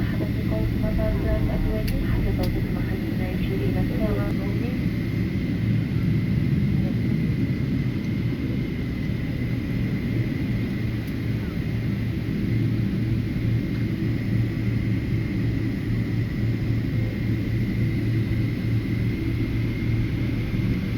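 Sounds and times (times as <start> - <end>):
airplane engines rumbling: 0.0 - 20.9
high engine whine: 0.0 - 20.9.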